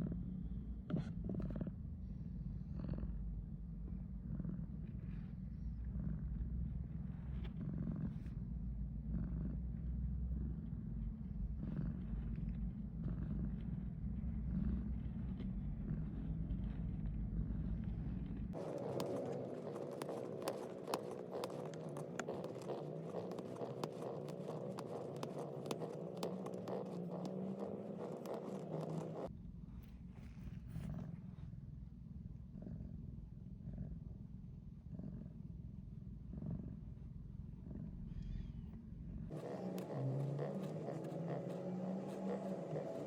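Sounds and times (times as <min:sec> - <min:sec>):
cat purring: 0:00.0 - 0:29.3, 0:30.2 - 0:31.6, 0:32.3 - 0:38.4, 0:39.0 - 0:43.0.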